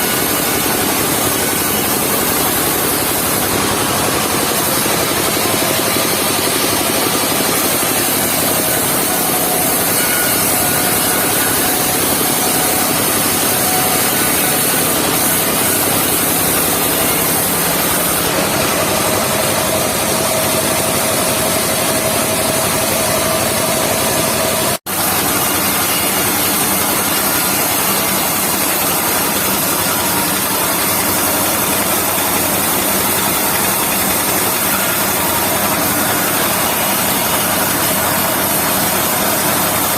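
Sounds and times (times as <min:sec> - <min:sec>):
circular saw sawing logs: 0:00.0 - 0:23.2, 0:24.8 - 0:39.9.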